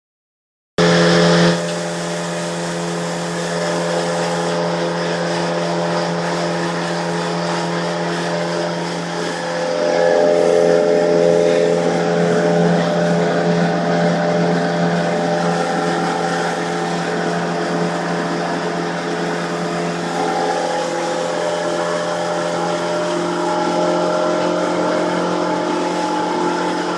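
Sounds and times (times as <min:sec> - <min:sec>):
outboard motor running: 0:00.8 - 0:26.9
water rushing: 0:01.0 - 0:26.9.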